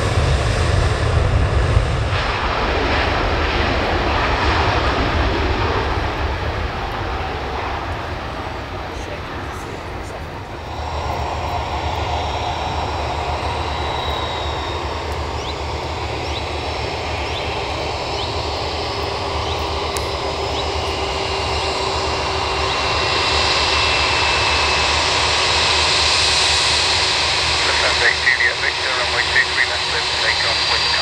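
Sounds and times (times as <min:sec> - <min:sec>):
jet engines whining: 0:00.0 - 0:31.0.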